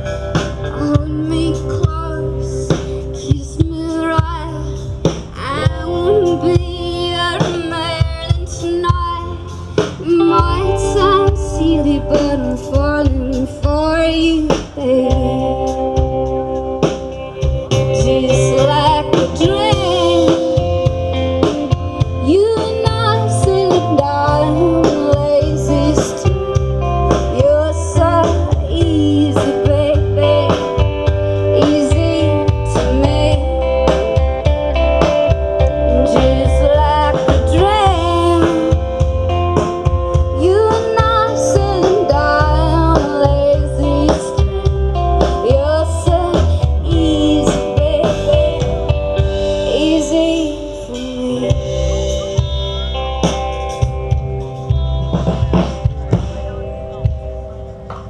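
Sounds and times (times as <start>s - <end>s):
woman singing lead: 0.0s - 53.2s
live band playing: 0.0s - 58.0s.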